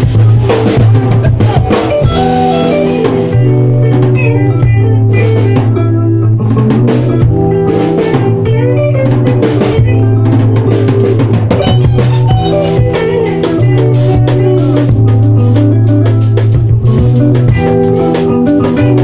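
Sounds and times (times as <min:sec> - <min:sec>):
bass guitar: 0:00.0 - 0:19.0
drum kit beat: 0:00.0 - 0:19.0
electric guitar chords: 0:00.0 - 0:19.0.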